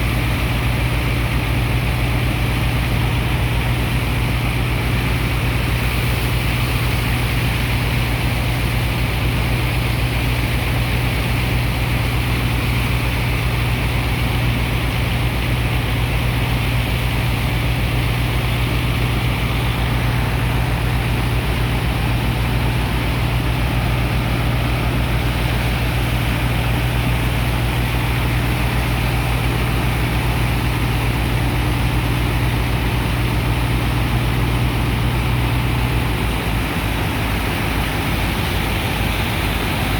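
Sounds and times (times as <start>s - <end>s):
engine and pump drone: 0.0s - 39.9s.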